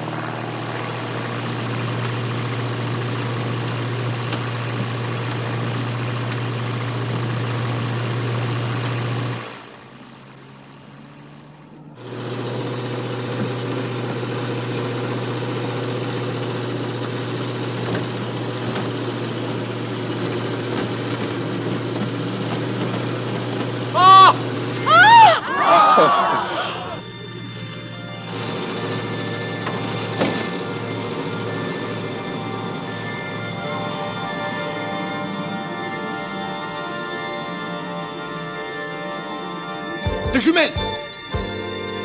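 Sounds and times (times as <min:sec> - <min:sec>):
light aircraft engine droning: 0:00.0 - 0:42.0.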